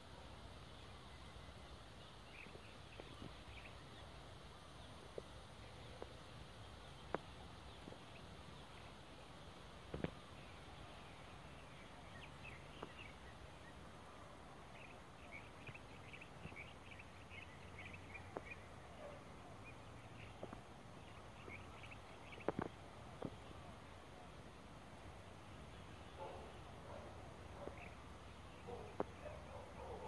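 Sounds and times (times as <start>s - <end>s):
faint background hiss: 0.0s - 30.0s
small birds chirping: 0.0s - 30.0s.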